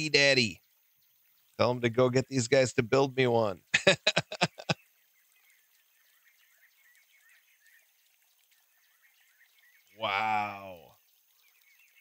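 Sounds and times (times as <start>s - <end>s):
light hiss: 0.0s - 12.0s
soft bird chirps: 0.1s - 12.0s.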